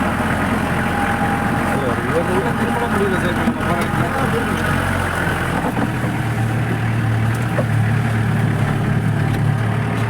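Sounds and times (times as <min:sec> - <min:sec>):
off-road vehicle engine running: 0:00.0 - 0:10.0.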